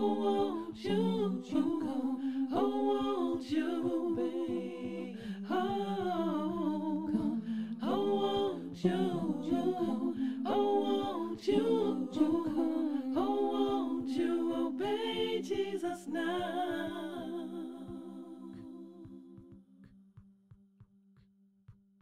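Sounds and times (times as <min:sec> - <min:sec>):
a cappella singing and humming: 0:00.0 - 0:19.7.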